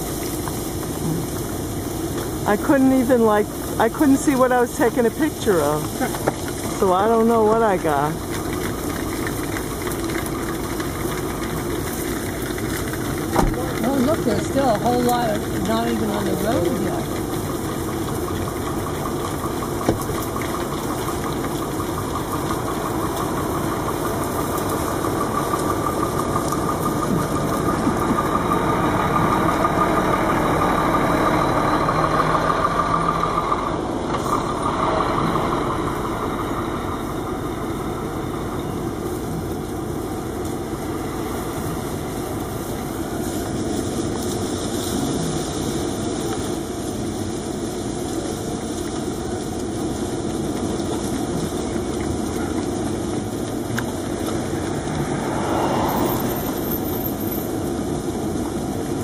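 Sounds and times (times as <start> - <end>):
truck passing: 0.0 - 45.7, 52.7 - 59.0
car engine hum: 0.0 - 59.0.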